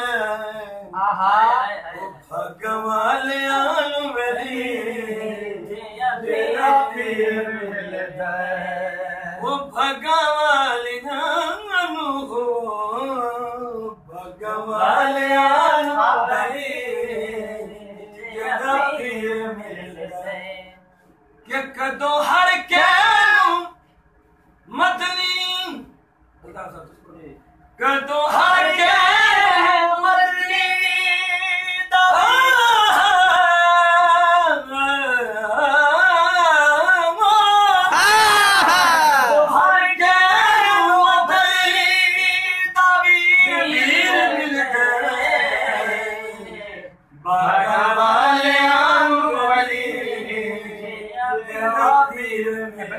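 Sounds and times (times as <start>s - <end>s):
man singing unaccompanied: 0.0s - 20.8s, 21.4s - 23.8s, 27.8s - 52.9s.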